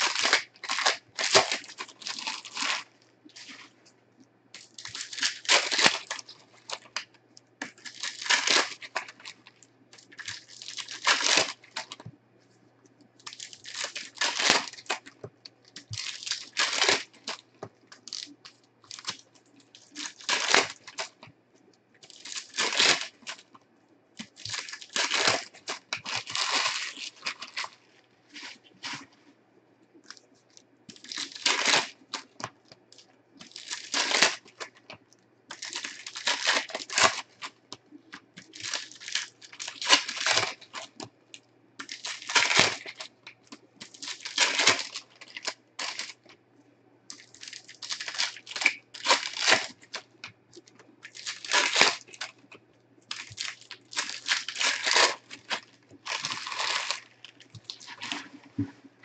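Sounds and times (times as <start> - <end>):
foil packs tearing and crinkling: 0.0 - 3.8, 4.6 - 12.1, 13.2 - 15.2, 15.8 - 21.3, 22.0 - 23.6, 24.2 - 29.1, 30.9 - 32.5, 33.4 - 41.1, 41.8 - 46.2, 47.1 - 50.2, 51.0 - 52.4, 53.1 - 58.4.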